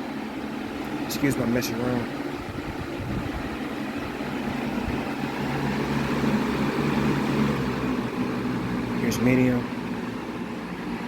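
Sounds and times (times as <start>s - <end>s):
box fan running: 0.0s - 11.0s.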